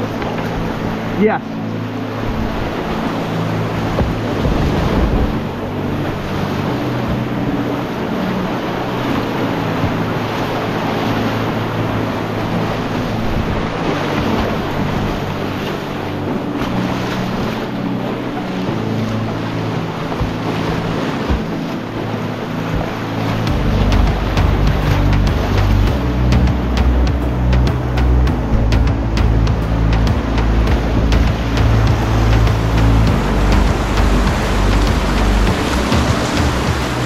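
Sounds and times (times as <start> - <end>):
river rushing: 0.0 - 37.0
wind noise on microphone: 0.0 - 37.0.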